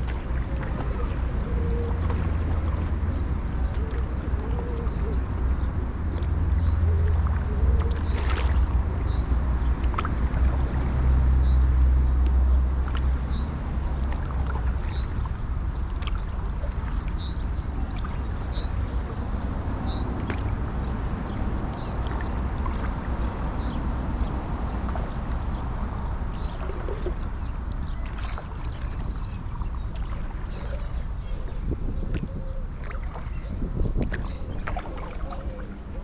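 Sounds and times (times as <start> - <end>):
steady low rumble: 0.0 - 36.0.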